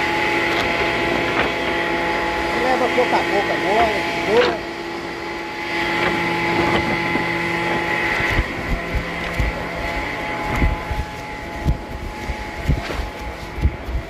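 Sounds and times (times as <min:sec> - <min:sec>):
sawmill saw humming: 0:00.0 - 0:14.0.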